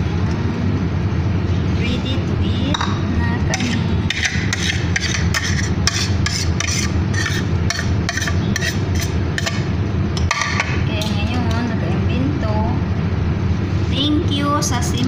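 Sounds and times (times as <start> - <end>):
stove and range hood rumble: 0.0 - 15.0.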